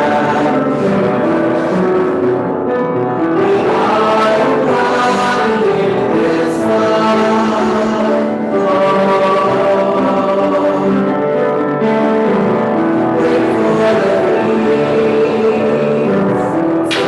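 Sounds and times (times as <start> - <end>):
group singing a hymn: 0.0 - 17.0.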